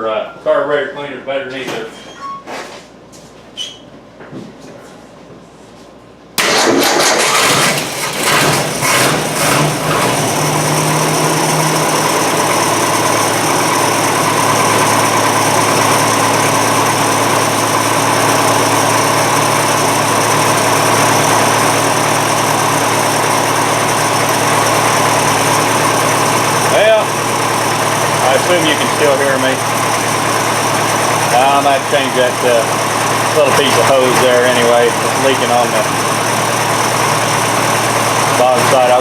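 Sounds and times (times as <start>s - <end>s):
car engine starting and running: 6.4s - 39.0s.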